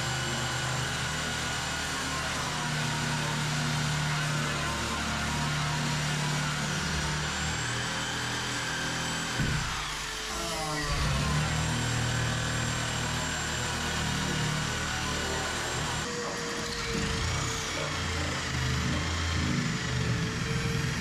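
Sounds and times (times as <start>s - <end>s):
reciprocating saw cutting: 0.0s - 21.0s.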